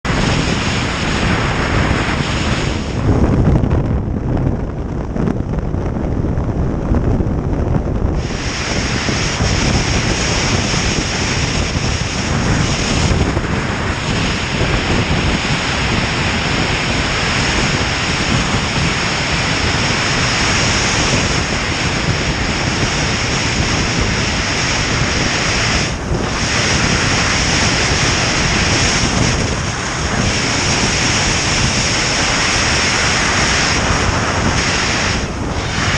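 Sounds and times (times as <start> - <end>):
wind rushing on microphone: 0.0 - 35.9.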